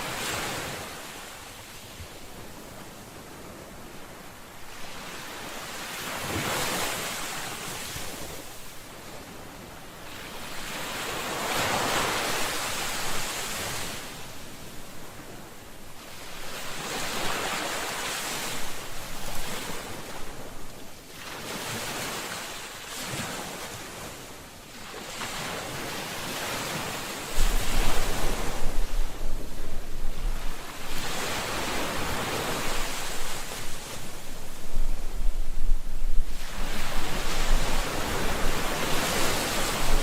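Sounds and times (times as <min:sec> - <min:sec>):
waves breaking: 0:00.0 - 0:09.4, 0:10.0 - 0:40.0
wind on microphone: 0:00.0 - 0:40.0.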